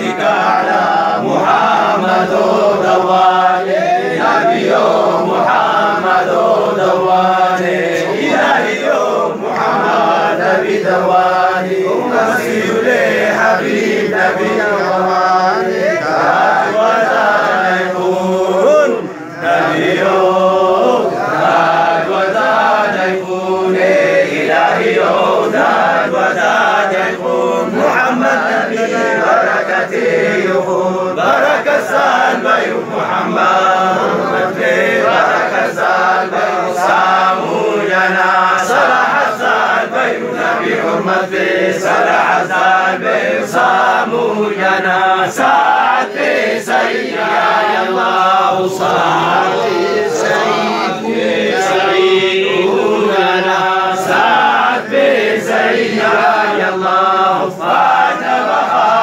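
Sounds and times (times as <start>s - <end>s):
men chanting: 0.0s - 59.0s.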